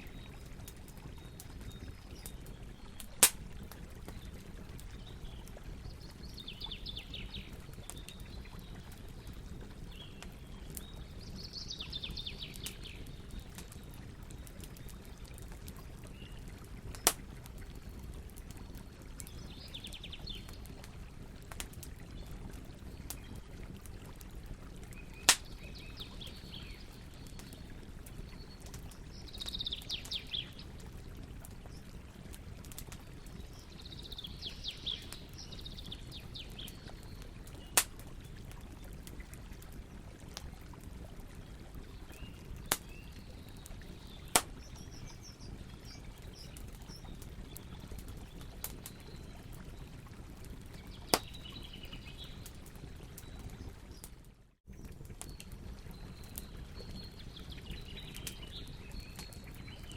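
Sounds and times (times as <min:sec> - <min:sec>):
small birds chirping: 0:00.0 - 0:20.9, 0:24.9 - 0:31.8, 0:32.7 - 0:37.9, 0:41.7 - 0:49.7, 0:50.6 - 0:54.1, 0:54.7 - 0:59.9
campfire burning: 0:00.0 - 0:59.9
fire popping: 0:00.2 - 0:54.1.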